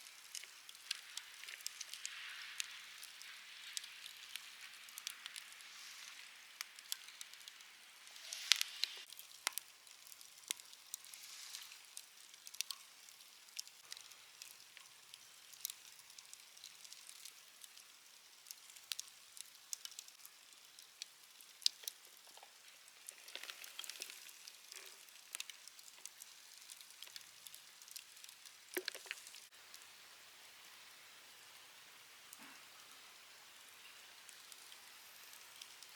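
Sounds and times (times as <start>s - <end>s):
wood bonfire crackling: 0.0s - 35.9s.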